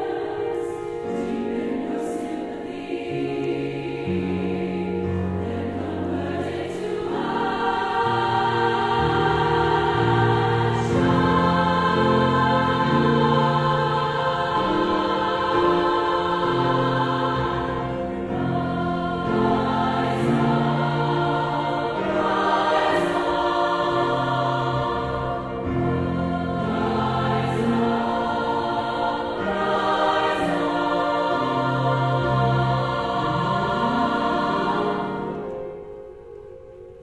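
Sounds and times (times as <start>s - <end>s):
women's choir singing: 0.0s - 36.1s
piano accompaniment: 0.0s - 37.0s.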